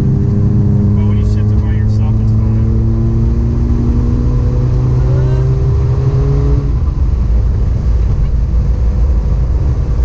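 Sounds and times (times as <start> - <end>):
car engine humming: 0.0 - 10.0
low rumble of car driving: 0.0 - 10.0.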